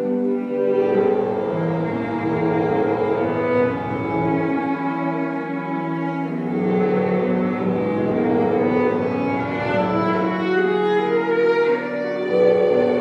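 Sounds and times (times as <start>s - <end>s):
slow bowed string music: 0.0s - 13.0s.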